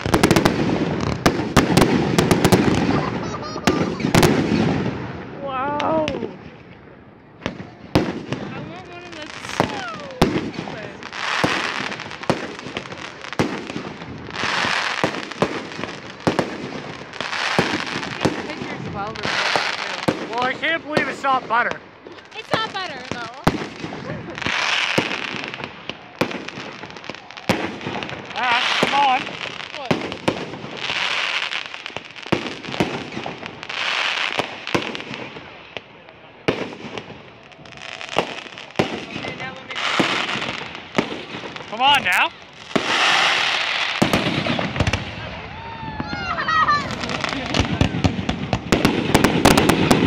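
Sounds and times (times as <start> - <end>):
firework shells bursting bangs: 0.0 - 5.3, 7.4 - 45.3, 46.9 - 50.0
fireworks crackling hiss: 0.0 - 50.0.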